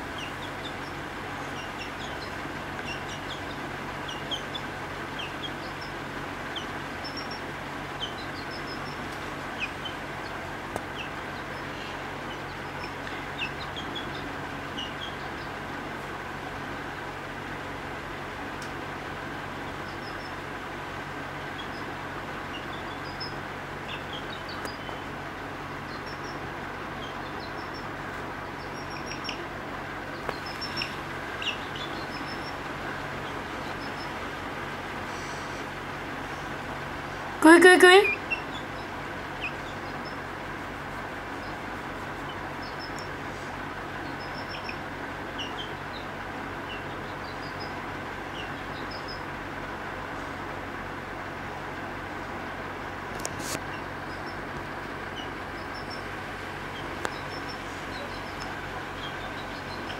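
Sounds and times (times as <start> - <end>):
chick peeping: 0.0 - 15.9, 19.4 - 20.5, 21.4 - 34.3, 37.4 - 40.3, 40.9 - 49.4, 53.1 - 59.9
steady background hum: 0.0 - 59.9.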